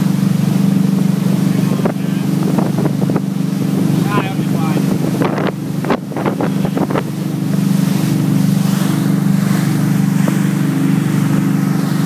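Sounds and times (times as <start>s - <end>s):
motorboat engine droning: 0.0s - 12.0s
water churning in wake: 0.0s - 12.0s
wind buffeting microphone: 1.4s - 12.0s.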